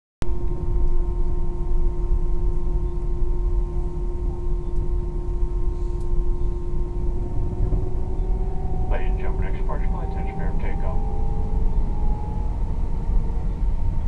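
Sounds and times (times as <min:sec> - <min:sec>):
jet engine whine: 0:00.2 - 0:14.0.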